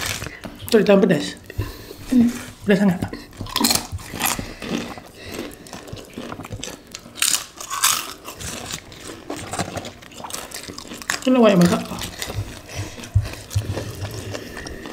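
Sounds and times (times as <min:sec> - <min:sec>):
food crunching: 0:00.0 - 0:14.9
people chewing with wet mouth clicks: 0:00.0 - 0:14.9.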